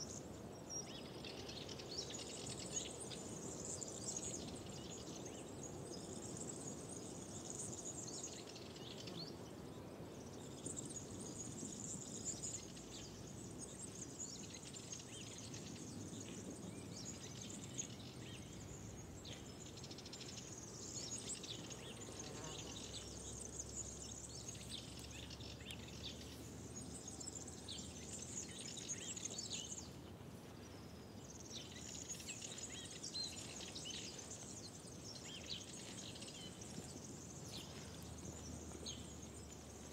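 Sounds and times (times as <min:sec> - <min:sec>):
low background noise: 0:00.0 - 0:39.9
small birds singing and chirping: 0:00.0 - 0:39.9.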